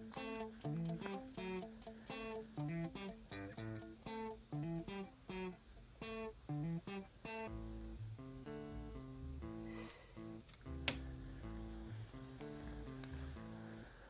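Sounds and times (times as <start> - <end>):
guitar picking: 0.0 - 14.0.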